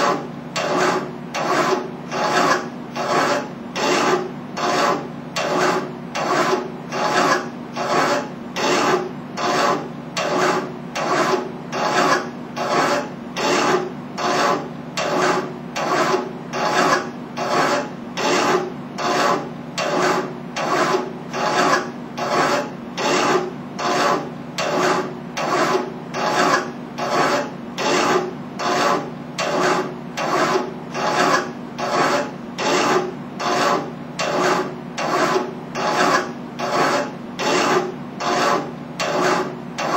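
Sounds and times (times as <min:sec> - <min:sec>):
hand file rasping on metal: 0:00.0 - 0:39.9.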